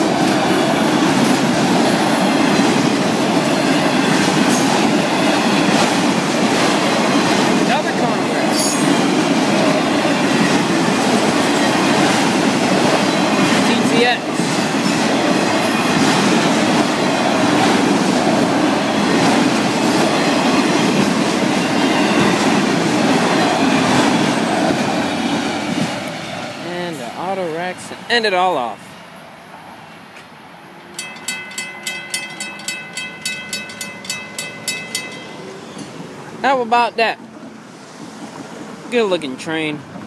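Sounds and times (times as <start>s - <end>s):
train wheels rushing on rails: 0.0s - 28.1s, 30.8s - 40.0s.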